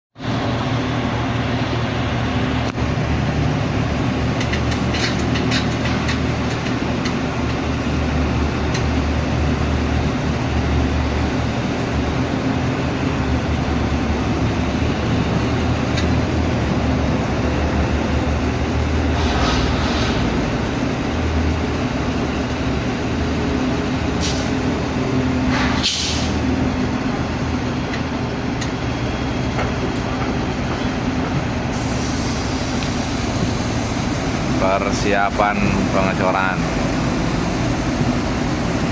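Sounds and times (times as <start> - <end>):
diesel machinery engine drone: 0.2 - 38.9.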